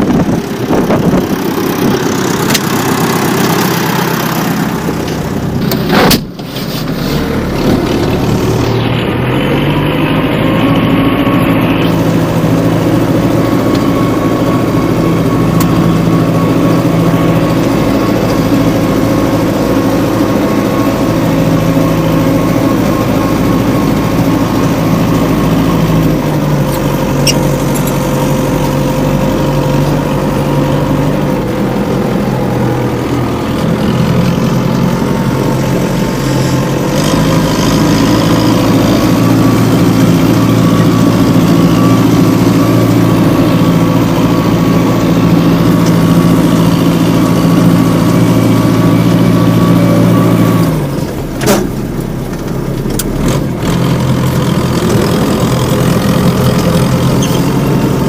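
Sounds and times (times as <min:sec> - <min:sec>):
small tractor engine running: 0:00.0 - 0:58.0.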